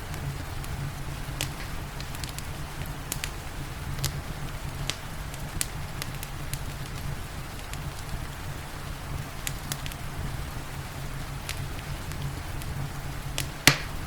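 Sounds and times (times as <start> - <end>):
steady rain: 0.0 - 14.0
wood fire crackling and popping: 0.0 - 14.0.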